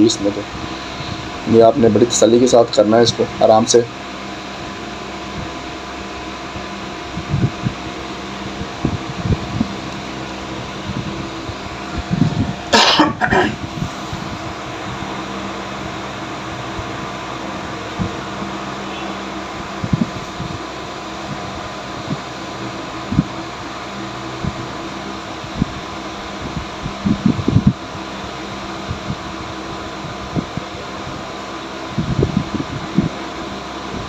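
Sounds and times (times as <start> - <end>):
fan whirring: 0.0 - 34.0.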